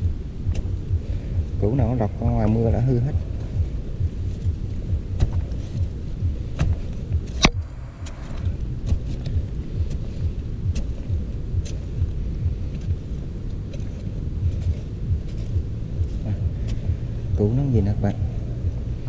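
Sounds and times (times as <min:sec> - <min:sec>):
low pulsing rumble: 0:00.0 - 0:19.0
tool knocking and scraping earth: 0:00.0 - 0:19.0.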